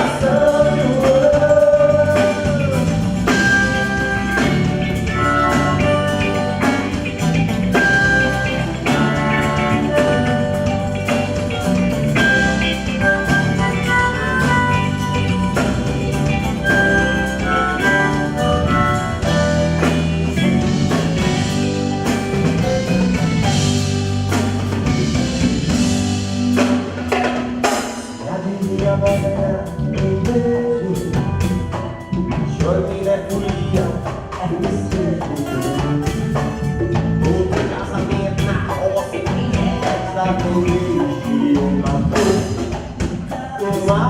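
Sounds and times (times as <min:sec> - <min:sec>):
melodic lead line: 0:00.0 - 0:42.6
band playing instrumental: 0:00.0 - 0:44.0
bass: 0:00.0 - 0:44.0
drums: 0:00.0 - 0:44.0.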